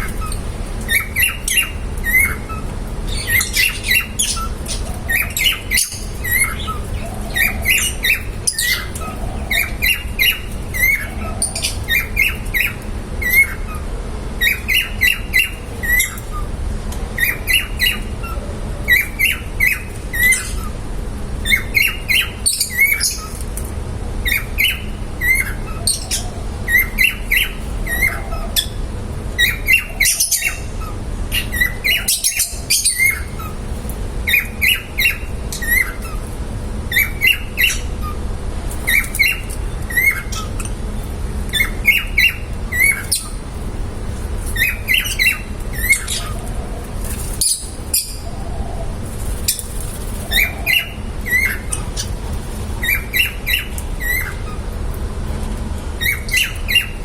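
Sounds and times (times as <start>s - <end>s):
lovebirds chirping and squawking: 0.0s - 55.1s, 56.0s - 57.0s
low background hum: 0.0s - 57.0s.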